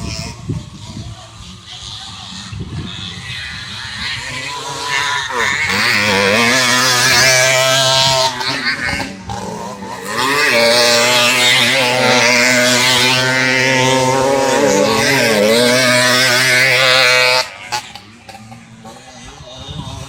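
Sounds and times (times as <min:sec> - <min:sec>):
two-stroke motocross engines revving: 0:00.0 - 0:20.0.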